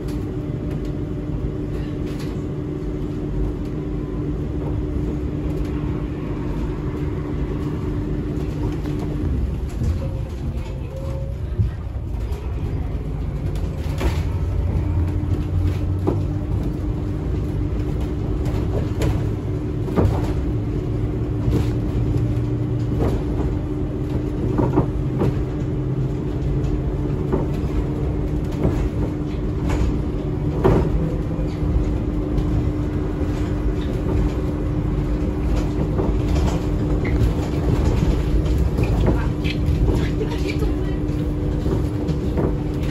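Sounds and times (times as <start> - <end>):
tram cabin rumble: 0.0 - 42.9.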